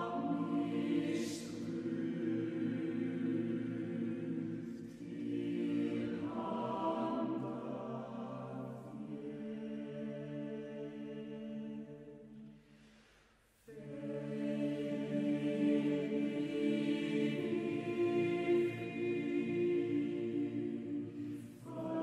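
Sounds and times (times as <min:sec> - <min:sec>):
choir singing a cappella: 0:00.0 - 0:13.0, 0:13.6 - 0:22.0.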